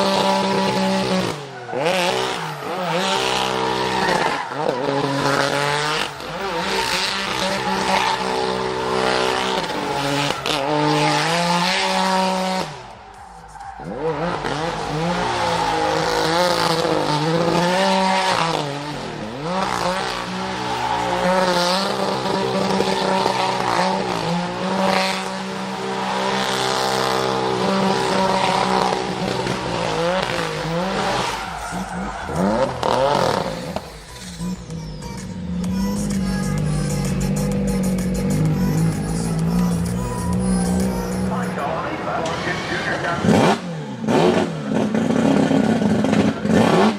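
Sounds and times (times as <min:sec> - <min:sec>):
tyres squealing: 0:00.0 - 0:44.3
car engine at high revs: 0:00.0 - 0:46.9.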